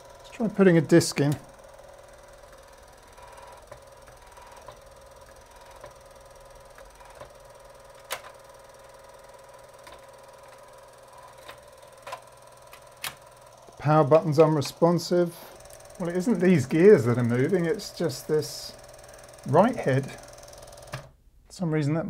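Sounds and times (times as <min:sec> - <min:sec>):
motor humming faintly: 0:00.0 - 0:21.2.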